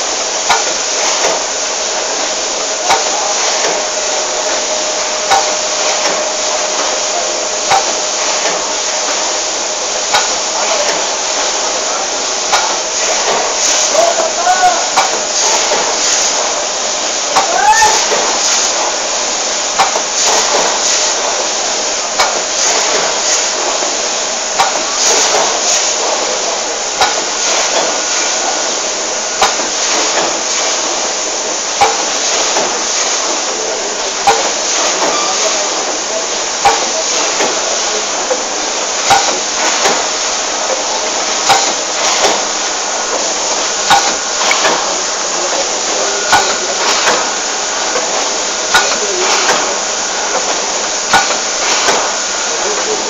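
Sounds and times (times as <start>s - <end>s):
packing machine hissing: 0.0s - 53.0s
machine knocking: 0.2s - 53.0s.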